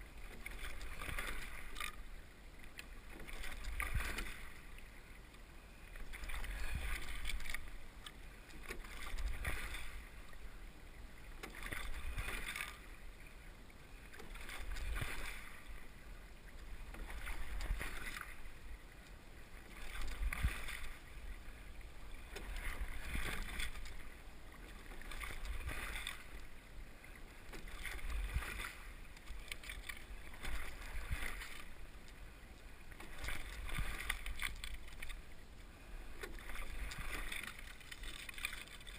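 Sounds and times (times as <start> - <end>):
water splashing around rowing boat: 0.0 - 38.9.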